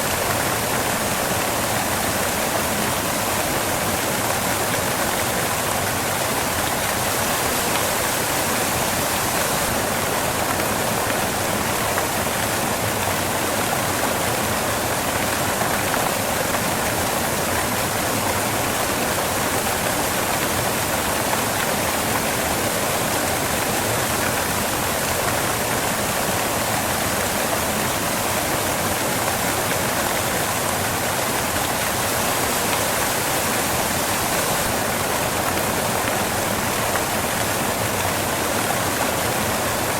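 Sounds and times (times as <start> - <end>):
waterfall crashing off rocks: 0.0 - 39.9.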